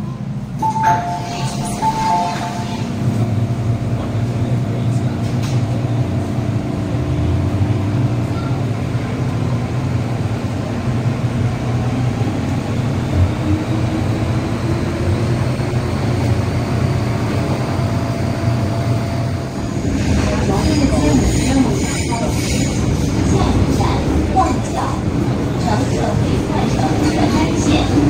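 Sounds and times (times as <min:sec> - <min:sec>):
train wheels rumbling: 0:03.1 - 0:28.0.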